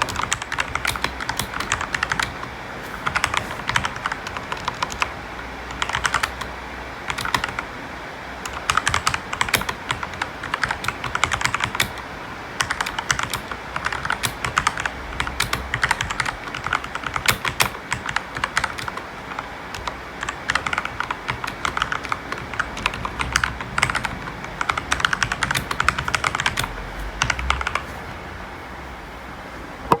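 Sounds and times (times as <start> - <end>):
typing on mechanical keyboard: 0.0 - 5.1, 5.7 - 6.5, 7.1 - 7.7, 8.4 - 27.9.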